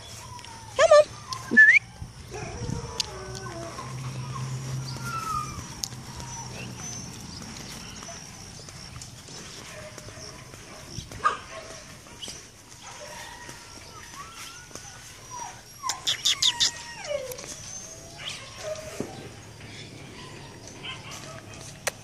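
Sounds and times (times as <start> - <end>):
dogs whining and yelping: 0.0 - 22.0.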